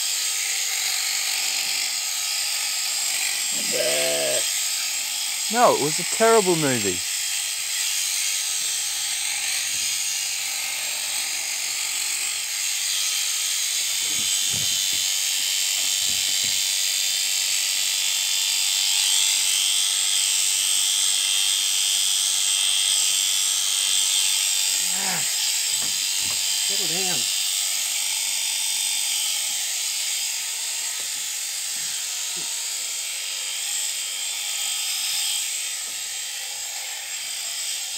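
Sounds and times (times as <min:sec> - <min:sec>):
electric sheep shears whining: 0:00.0 - 0:37.9.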